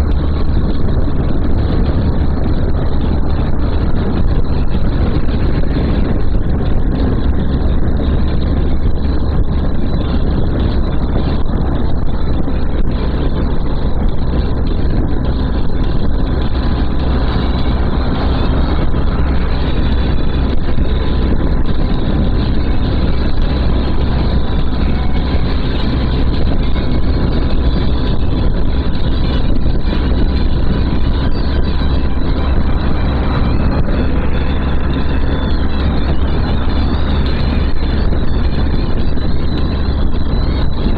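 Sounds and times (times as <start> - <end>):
motorcycle engine and road drone: 0.0 - 40.9
wind rush over microphone: 0.0 - 40.9.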